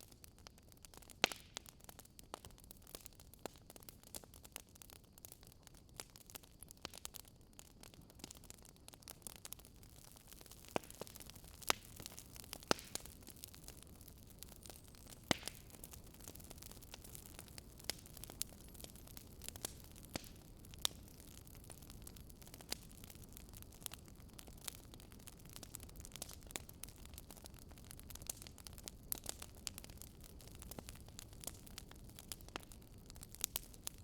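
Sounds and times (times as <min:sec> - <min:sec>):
campfire crackling and popping: 0:00.0 - 0:34.0
soft steady hiss: 0:00.0 - 0:34.0.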